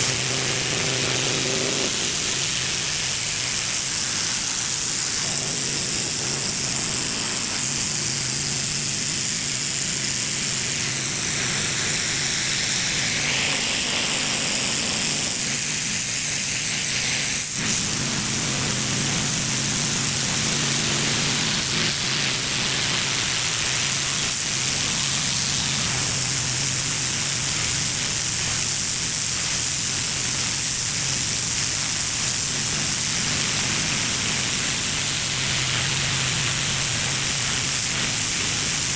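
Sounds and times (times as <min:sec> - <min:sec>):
pressure washer spraying concrete: 0:00.0 - 0:38.9.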